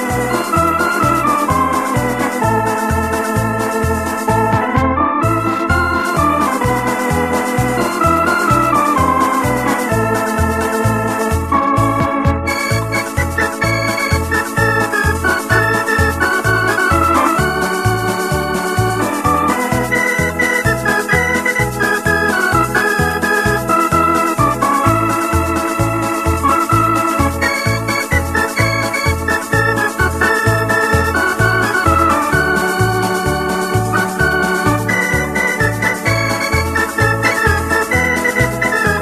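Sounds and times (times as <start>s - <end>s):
electronic organ tune: 0.0s - 39.0s.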